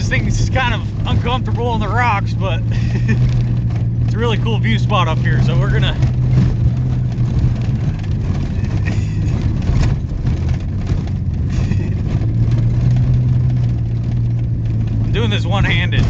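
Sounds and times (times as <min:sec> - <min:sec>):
knocks and rattles from rough ground: 0:00.0 - 0:16.0
truck engine running at low speed: 0:00.0 - 0:16.0.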